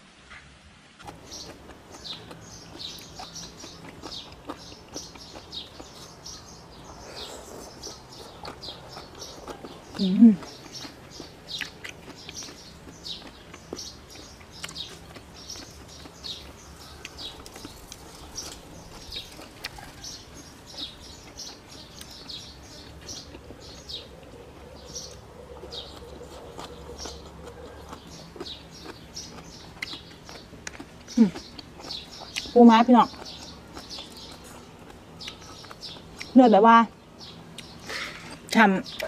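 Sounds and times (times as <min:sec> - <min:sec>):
small birds chirping: 0:01.0 - 0:39.0.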